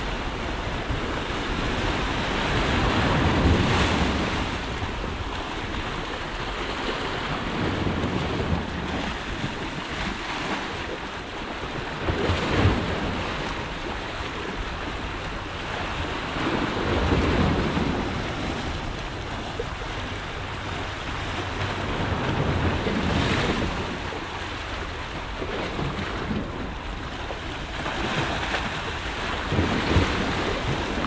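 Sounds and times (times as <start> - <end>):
sea waves washing over rocks: 0.0 - 31.0
wind rumbling on microphone: 0.0 - 31.0.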